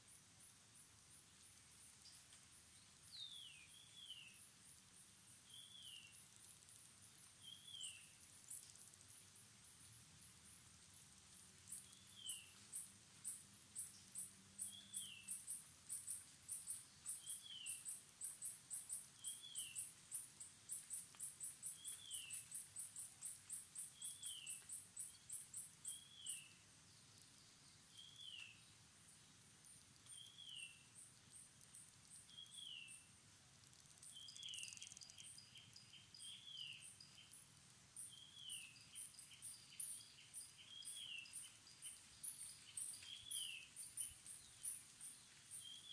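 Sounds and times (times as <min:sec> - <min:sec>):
insects chirping fast: 0:00.0 - 0:45.9.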